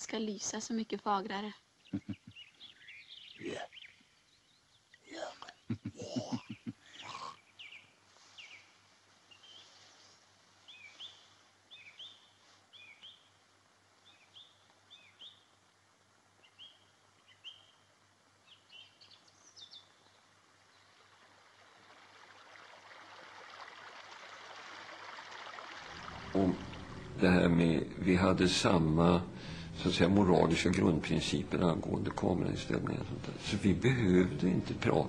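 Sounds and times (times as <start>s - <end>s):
film soundtrack hiss: 0.0s - 35.0s.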